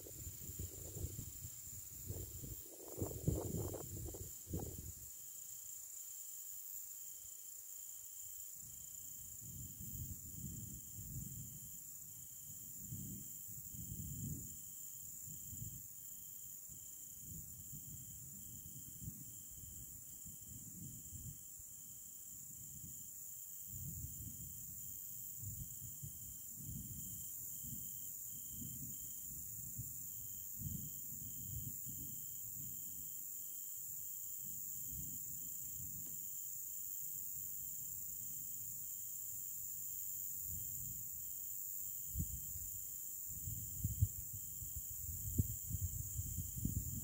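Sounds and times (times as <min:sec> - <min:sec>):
cricket chirping: 0:00.0 - 0:47.0
steady high hiss: 0:00.0 - 0:47.0.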